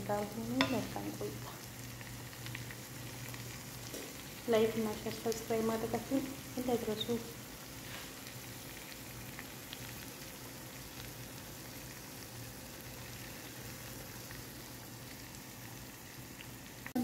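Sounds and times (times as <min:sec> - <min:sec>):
steaks sizzling in pan: 0:00.0 - 0:17.0.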